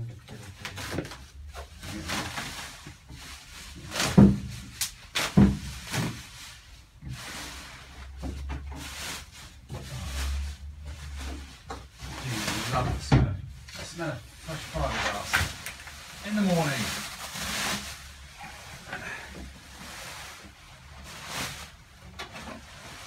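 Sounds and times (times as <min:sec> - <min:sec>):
bubble wrap rustling: 0:00.4 - 0:13.0, 0:13.6 - 0:18.9, 0:19.5 - 0:23.0.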